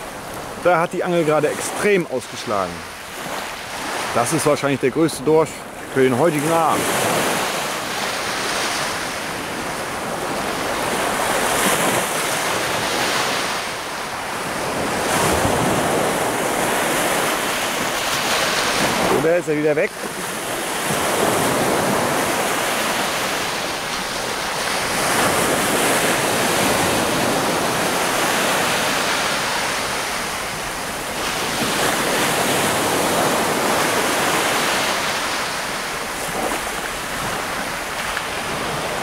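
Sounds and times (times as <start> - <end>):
surf washing onto beach: 0.0 - 39.0.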